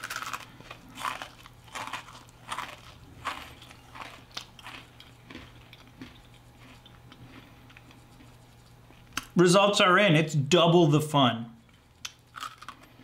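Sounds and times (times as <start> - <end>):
chewing crunchy cookie: 0.0 - 9.4, 11.6 - 13.0.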